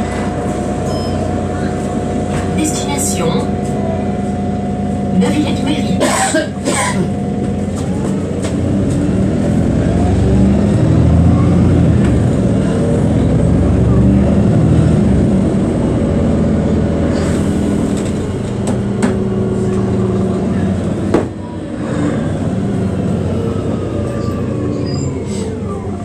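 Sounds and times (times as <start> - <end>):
bus engine accelerating: 0.0 - 26.0.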